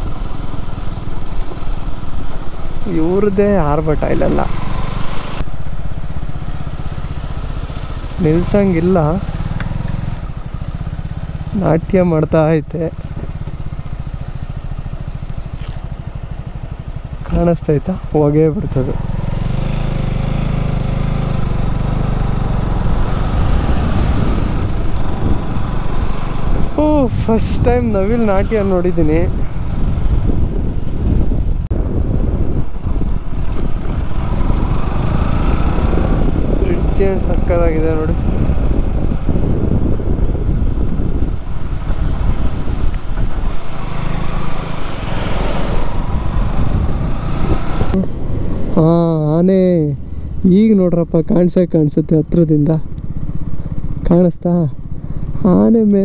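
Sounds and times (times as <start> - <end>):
wind rumbling on microphone: 0.0 - 54.1
motorcycle engine running: 0.0 - 56.0.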